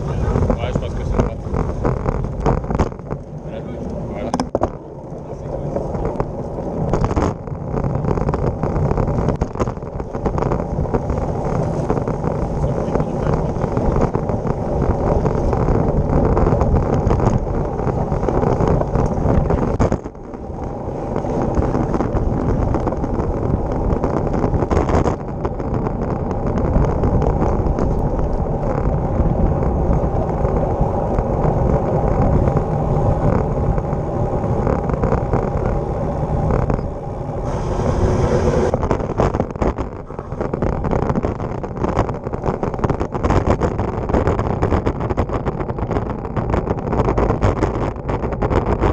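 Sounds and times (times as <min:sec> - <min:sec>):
bike tyres humming on asphalt: 0:00.0 - 0:48.9
wind rushing over microphone: 0:00.0 - 0:48.9.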